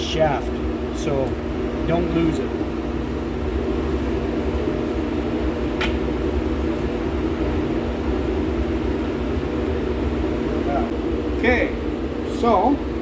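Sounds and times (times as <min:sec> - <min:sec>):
shop machinery droning: 0:00.0 - 0:13.0.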